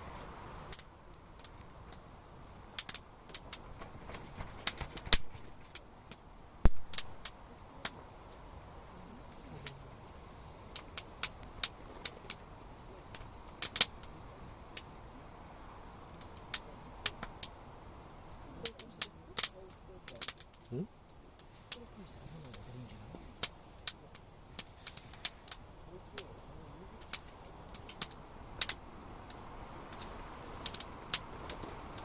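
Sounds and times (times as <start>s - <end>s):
campfire crackling and popping: 0.0s - 32.0s
low rush of fire: 0.0s - 32.0s.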